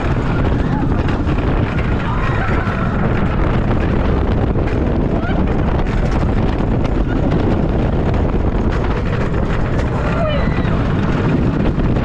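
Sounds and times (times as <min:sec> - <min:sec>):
roller coaster wheels rumbling: 0:00.0 - 0:12.0
wind rushing over microphone: 0:00.0 - 0:12.0.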